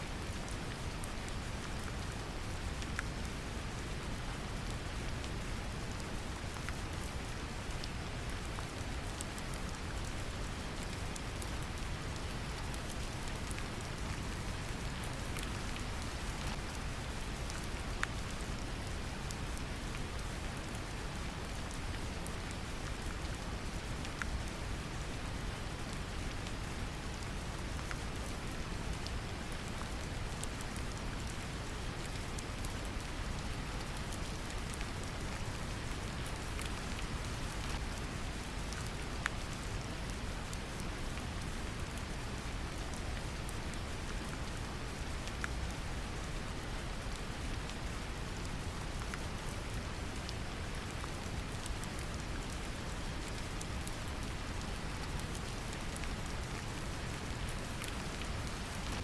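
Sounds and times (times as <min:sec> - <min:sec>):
deep brown-noise hiss: 0:00.0 - 0:59.0
rain pattering: 0:00.1 - 0:59.0.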